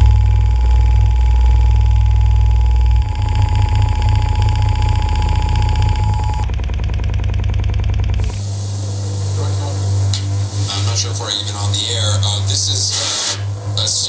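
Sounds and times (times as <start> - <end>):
deep bass signal from speaker: 0.0 - 14.0
steady mid-pitched tone: 0.0 - 14.0.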